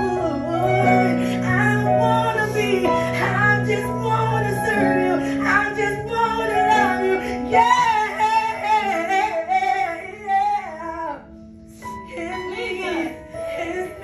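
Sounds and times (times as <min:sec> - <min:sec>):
woman singing gospel: 0:00.0 - 0:14.0.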